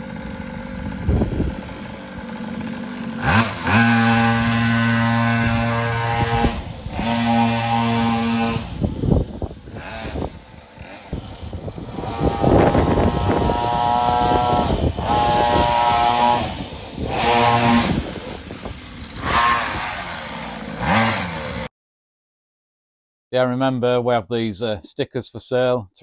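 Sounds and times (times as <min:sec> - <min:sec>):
small bike engine revving: 0:00.0 - 0:21.7.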